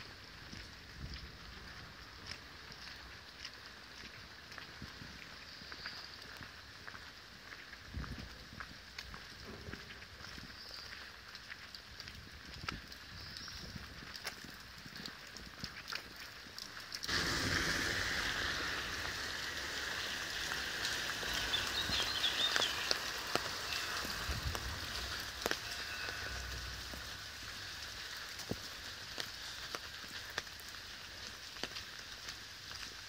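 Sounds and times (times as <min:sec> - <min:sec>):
rain hissing on wet paving: 0:00.0 - 0:33.0.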